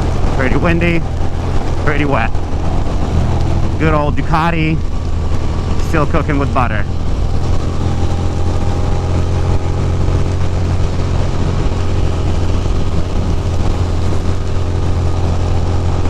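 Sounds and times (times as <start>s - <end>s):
motorcycle engine running: 0.0s - 16.0s
wind on microphone: 0.0s - 16.0s.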